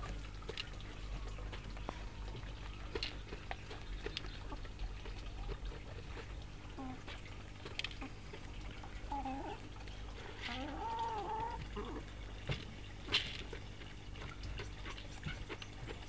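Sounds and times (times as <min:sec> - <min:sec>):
rabbits nibbling pellets: 0:00.0 - 0:16.0.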